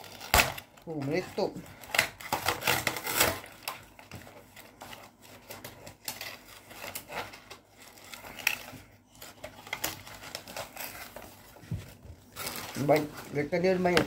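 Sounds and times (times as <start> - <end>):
plastic packaging rustling: 0.0 - 14.0.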